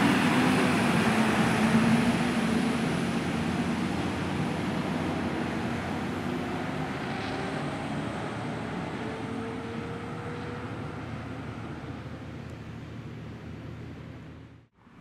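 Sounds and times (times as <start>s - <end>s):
fire engine driving away: 0.0s - 15.0s.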